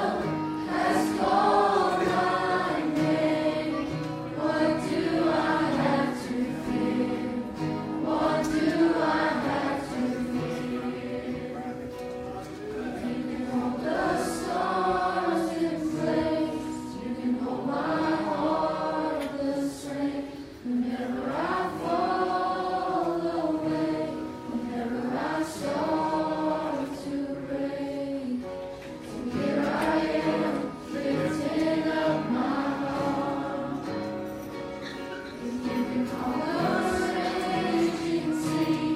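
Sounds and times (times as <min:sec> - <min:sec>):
group singing gospel song: 0:00.0 - 0:12.0, 0:12.9 - 0:38.9.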